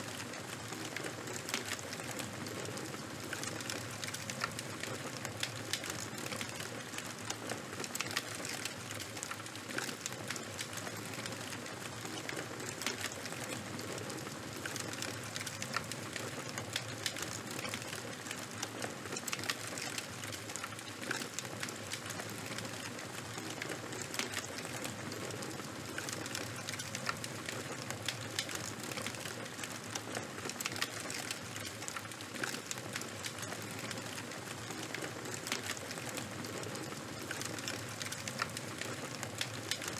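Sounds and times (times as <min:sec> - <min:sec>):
campfire crackling and popping: 0:00.1 - 0:39.9.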